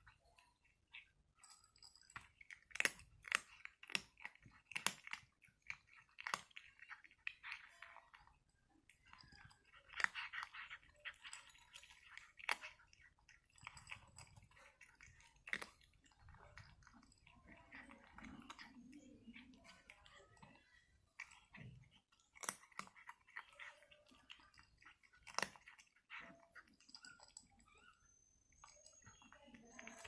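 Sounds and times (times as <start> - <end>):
cat chewing food: 0.0 - 30.0.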